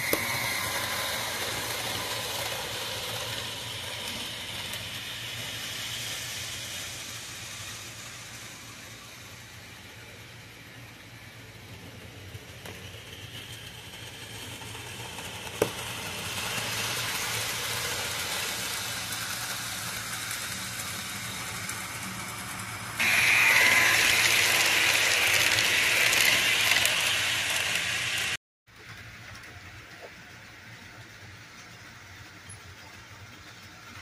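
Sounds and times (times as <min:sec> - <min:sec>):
model train wheels rolling on rails: 0:00.0 - 0:34.0.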